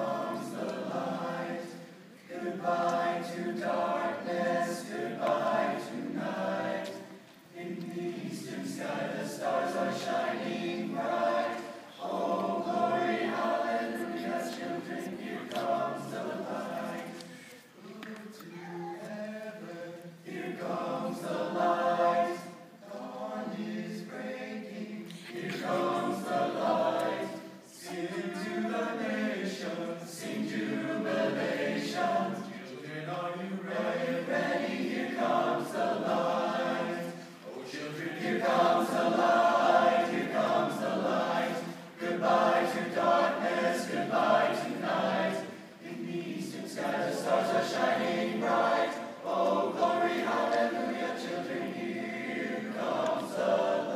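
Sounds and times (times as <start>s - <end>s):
male choir singing: 0.0s - 53.9s.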